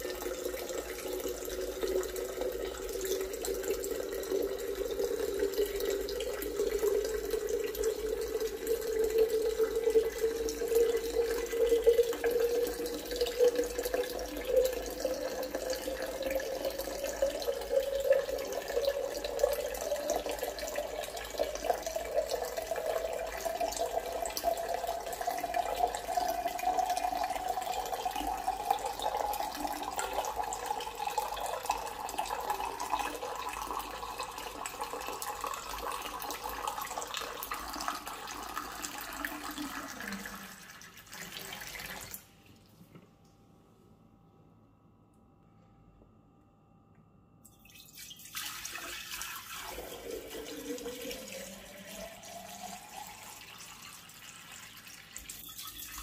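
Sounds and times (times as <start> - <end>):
water pouring into jug: 0.0 - 42.3, 47.6 - 56.0.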